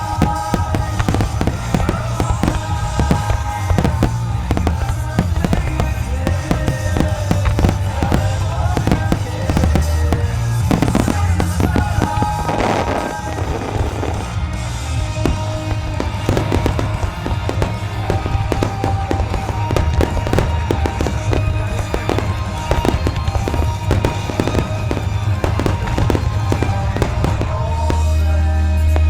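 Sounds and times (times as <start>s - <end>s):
fireworks bangs and crackles: 0.0s - 29.0s
music with heavy bass: 0.0s - 29.0s.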